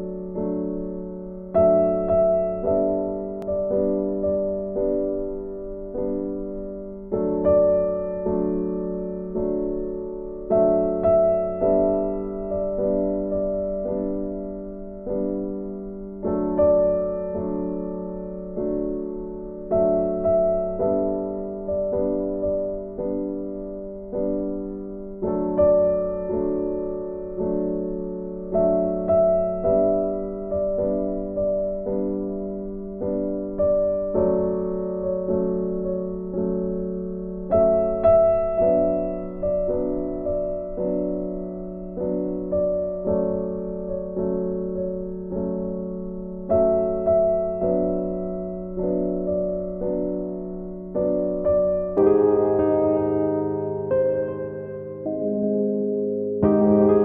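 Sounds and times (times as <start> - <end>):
soft keyboard chords: 0.0 - 57.0.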